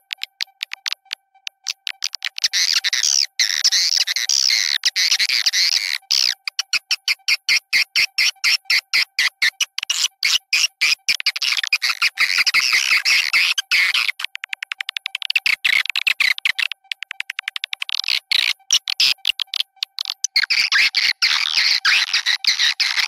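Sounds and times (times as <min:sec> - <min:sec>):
rapid clicks: 0:00.0 - 0:23.0.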